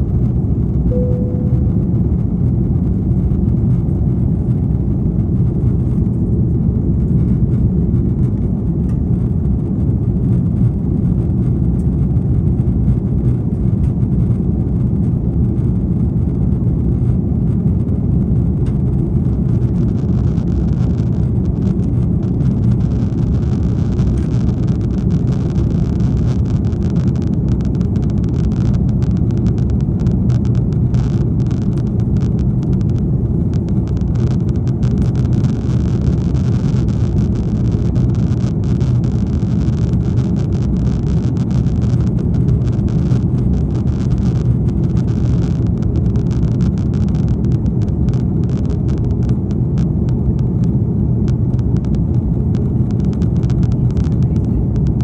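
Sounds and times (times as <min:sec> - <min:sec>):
airplane engines roaring: 0:00.0 - 0:55.0.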